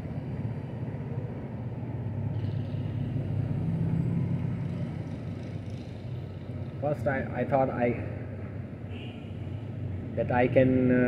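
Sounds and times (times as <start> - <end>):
low rumble of city noise: 0.0 - 11.0.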